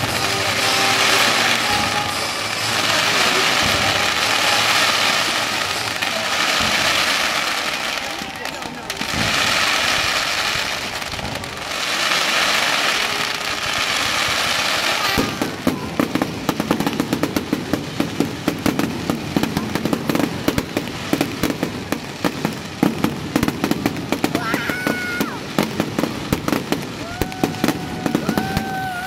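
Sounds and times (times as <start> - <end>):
fireworks crackling pops: 0.0 - 29.0
fireworks hissing: 0.0 - 29.0.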